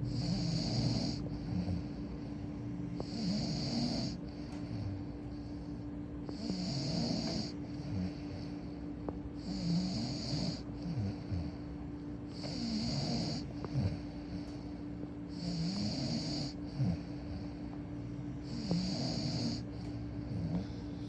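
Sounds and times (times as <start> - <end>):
person snoring: 0.0 - 2.3, 3.0 - 5.5, 6.2 - 8.8, 9.4 - 11.7, 12.3 - 14.7, 15.3 - 17.6, 18.4 - 21.0.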